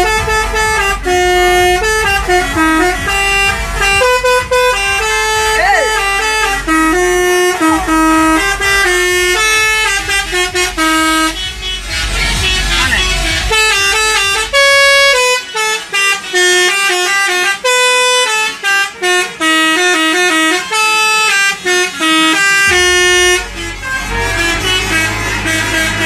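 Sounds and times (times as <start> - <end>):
musical bus air horn tune: 0.0 - 26.0.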